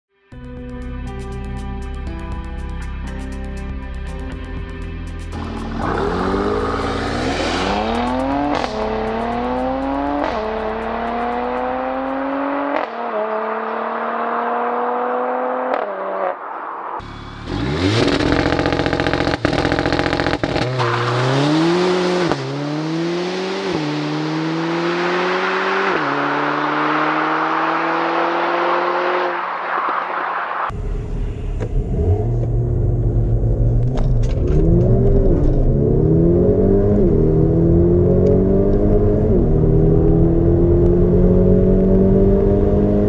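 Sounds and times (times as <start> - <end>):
car accelerating through gears: 5.3 - 16.4, 17.1 - 43.0.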